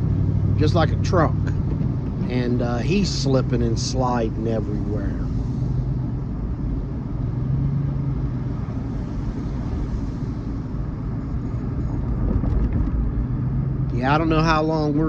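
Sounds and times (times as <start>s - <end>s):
road and tyre rumble: 0.0s - 15.0s
truck engine hum: 0.0s - 15.0s.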